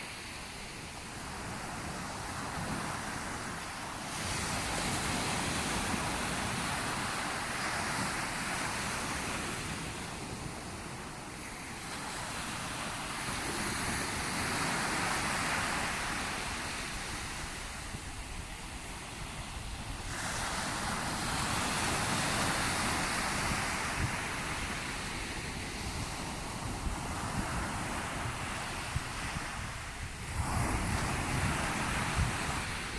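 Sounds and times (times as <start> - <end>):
sea waves breaking on shore: 0.0 - 32.9
wind rumbling on microphone: 0.0 - 32.9.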